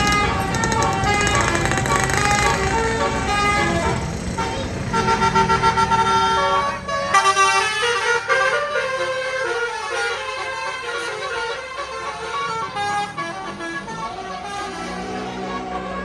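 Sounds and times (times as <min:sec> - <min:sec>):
bus engine and road noise: 0:00.0 - 0:16.0
musical air horn melody: 0:00.0 - 0:16.0.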